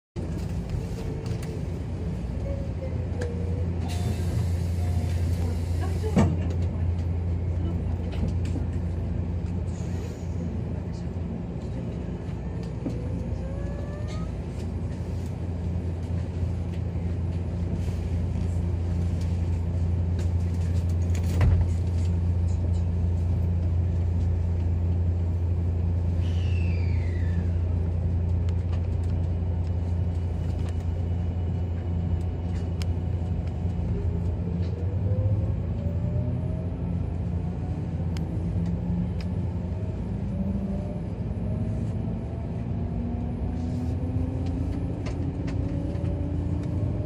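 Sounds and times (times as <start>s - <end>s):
train running hum: 0.2s - 47.0s.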